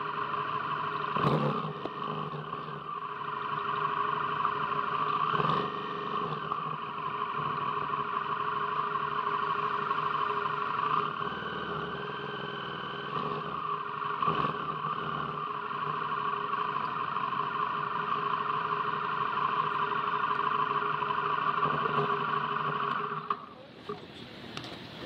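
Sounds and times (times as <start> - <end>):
steady engine drone: 0.0 - 25.0.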